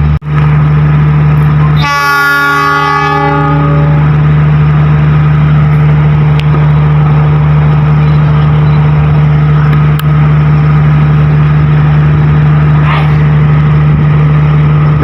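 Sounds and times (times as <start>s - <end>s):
train diesel engine droning: 0.0s - 15.0s.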